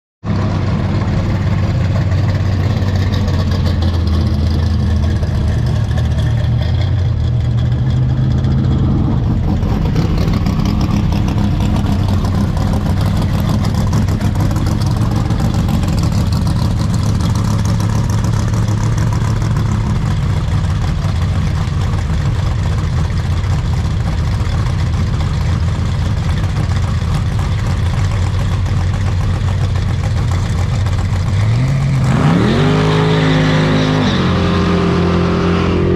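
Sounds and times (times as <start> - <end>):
car engines idling and running: 0.2 - 35.9.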